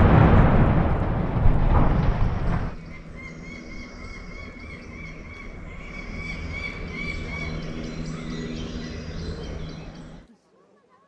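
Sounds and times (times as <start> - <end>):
low steady hum: 0.0 - 10.3
birds chirping: 0.0 - 11.0.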